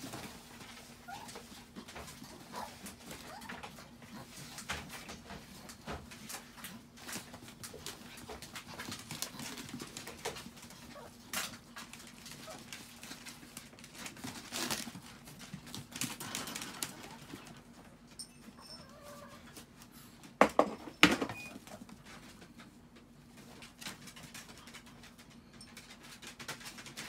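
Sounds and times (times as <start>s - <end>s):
paws scratching and clicking: 0.0s - 20.4s, 21.6s - 27.0s.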